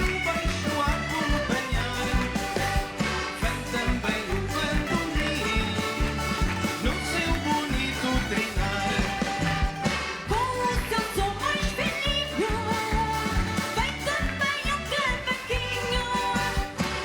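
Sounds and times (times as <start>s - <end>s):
people singing: 0.0s - 14.0s
bass and drum beat: 0.0s - 17.0s
concertinas playing: 0.0s - 17.0s.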